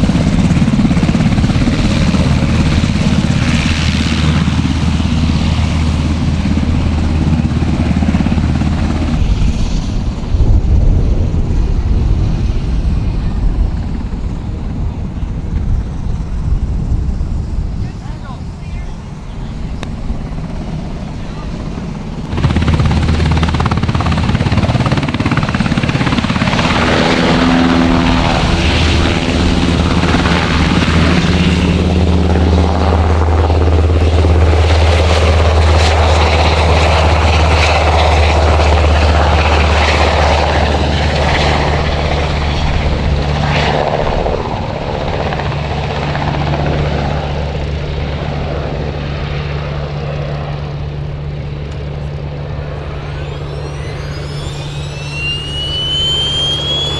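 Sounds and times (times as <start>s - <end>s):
helicopter rotor drone: 0.0s - 56.9s.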